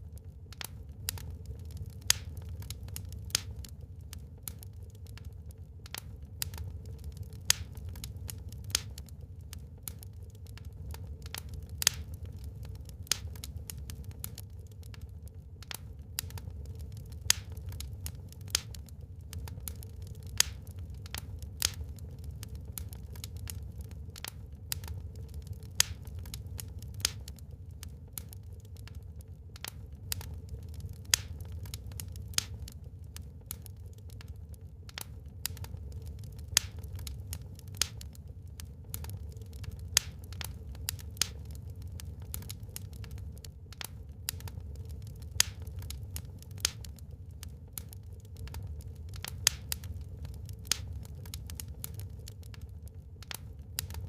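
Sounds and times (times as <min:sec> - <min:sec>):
low steady rumble: 0:00.0 - 0:54.0
wood fire crackling: 0:00.0 - 0:54.0.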